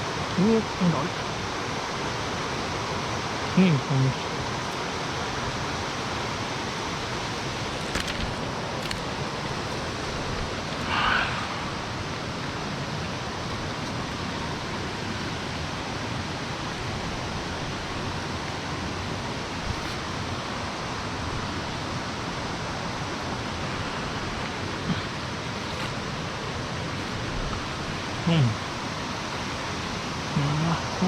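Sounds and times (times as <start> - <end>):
flowing stream water: 0.0 - 31.0.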